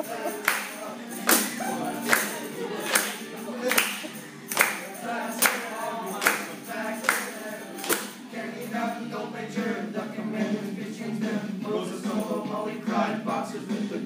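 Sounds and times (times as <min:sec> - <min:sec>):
group singing: 0:00.0 - 0:14.0.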